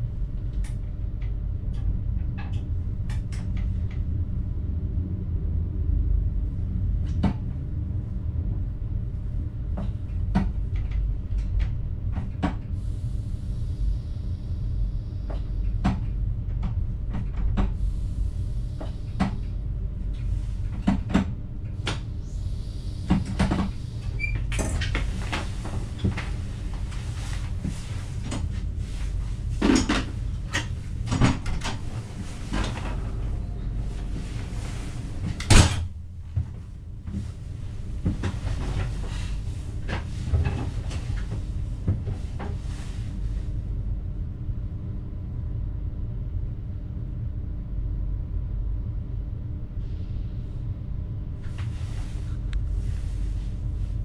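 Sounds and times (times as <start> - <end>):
train cab rumble: 0.0 - 54.0.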